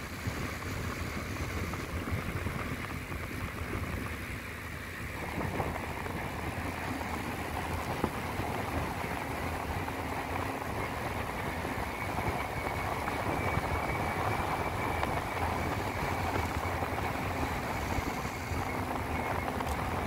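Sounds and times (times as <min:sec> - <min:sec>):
tyre noise on asphalt: 0:00.0 - 0:20.0
wind rushing over microphone: 0:00.0 - 0:20.0.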